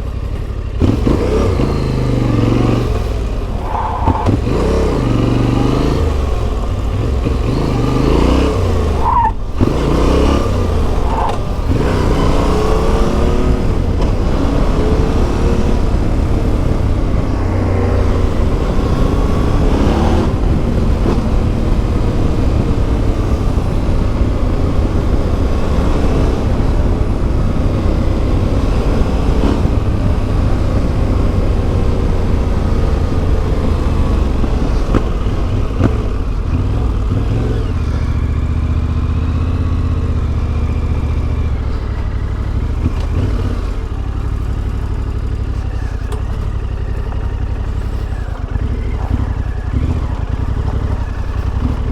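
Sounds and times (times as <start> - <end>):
motorcycle engine riding: 0.0 - 51.9.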